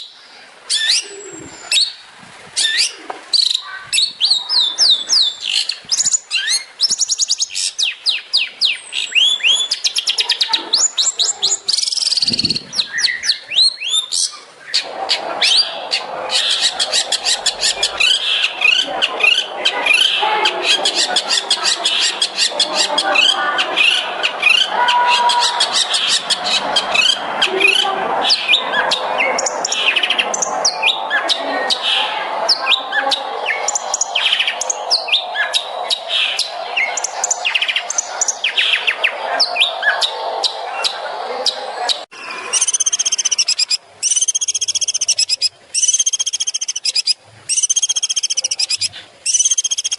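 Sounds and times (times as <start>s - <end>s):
repeated arching bird calls: 0.0s - 49.9s
shrike singing rapid chirps: 4.4s - 49.9s.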